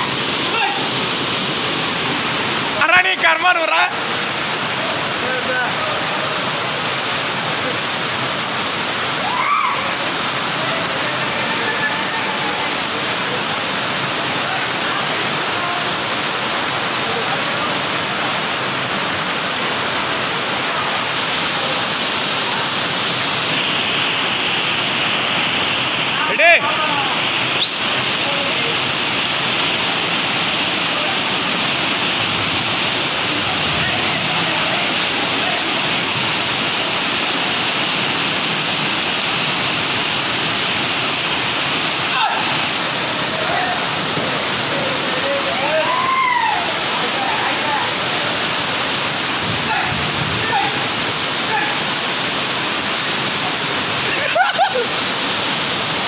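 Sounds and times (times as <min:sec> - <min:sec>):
floodwater rushing over pavement: 0:00.0 - 0:56.0.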